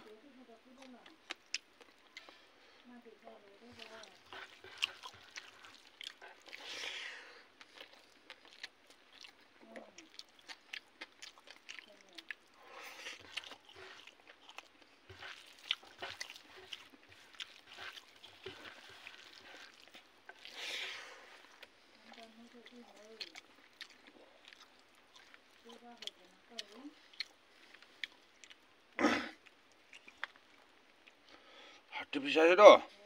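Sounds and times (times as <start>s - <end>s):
wet chewing with lip smacks: 0.8s - 2.8s, 3.6s - 31.4s.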